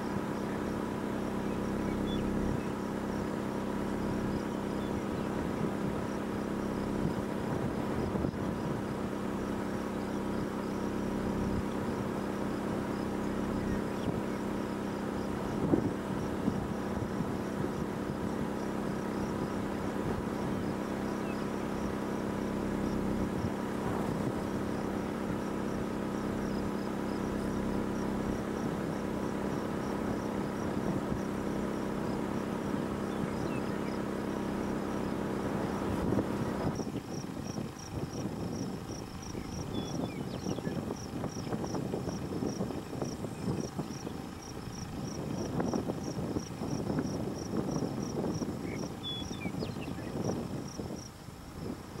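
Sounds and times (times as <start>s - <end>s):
crickets chirping: 0.0s - 52.0s
low mechanical hum: 0.0s - 52.0s.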